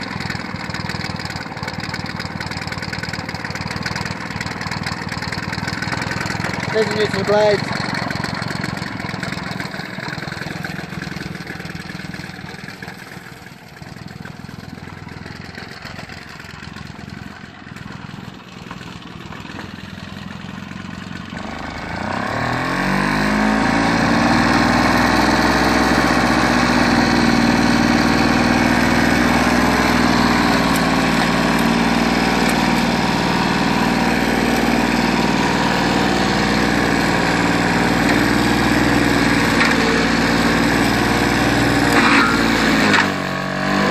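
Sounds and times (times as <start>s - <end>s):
lawnmower engine starting and running: 0.0s - 43.9s.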